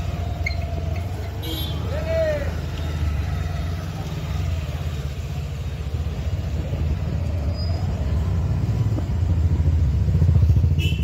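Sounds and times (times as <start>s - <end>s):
motorbike engine and road noise: 0.0s - 11.0s.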